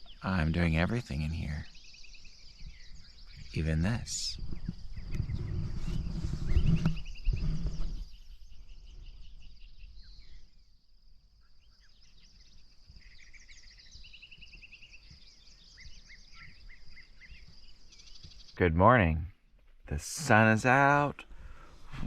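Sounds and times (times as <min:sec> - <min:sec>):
birds singing short trills: 0:00.0 - 0:19.2.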